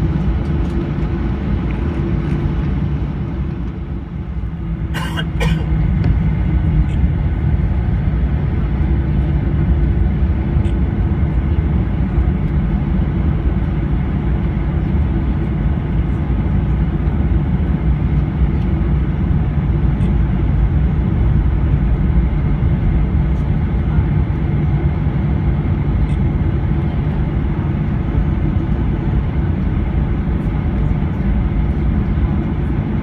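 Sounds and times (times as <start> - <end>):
jet engine rumble in cabin: 0.0 - 33.0.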